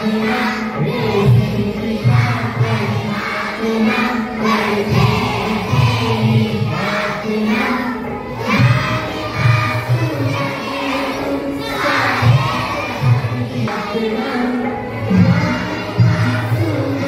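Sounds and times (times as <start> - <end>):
group singing prayer in unison: 0.0 - 17.0.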